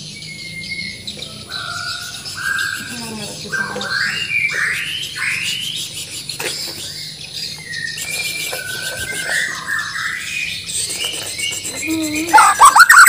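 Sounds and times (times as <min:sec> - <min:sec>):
bird singing whistled notes: 0:00.0 - 0:13.0.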